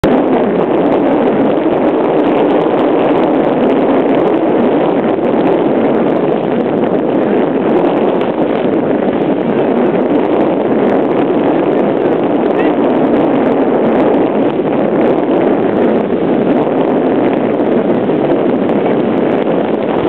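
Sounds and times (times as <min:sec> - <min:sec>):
ocean surf breaking: 0:00.0 - 0:20.0
wind on microphone: 0:00.0 - 0:20.0.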